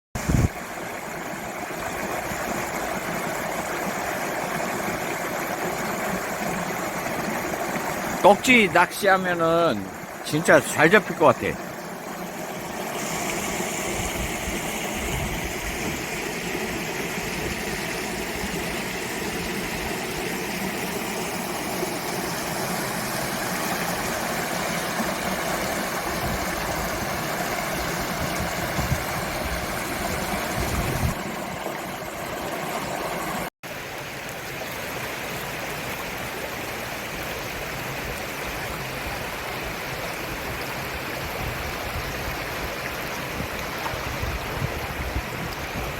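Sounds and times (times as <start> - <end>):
stream rushing: 0.2 - 45.9.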